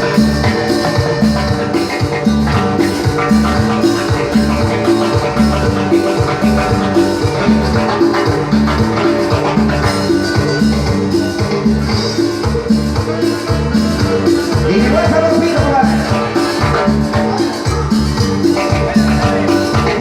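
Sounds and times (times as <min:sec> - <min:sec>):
band playing latin dance music: 0:00.0 - 0:20.0.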